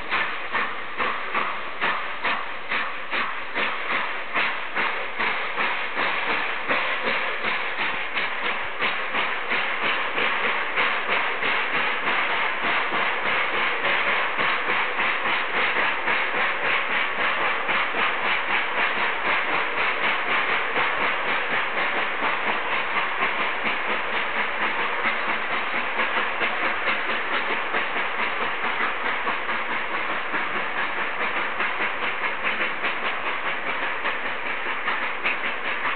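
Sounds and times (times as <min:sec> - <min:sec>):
steam hissing: 0:00.0 - 0:35.9
wheels clattering on rails: 0:00.0 - 0:35.9.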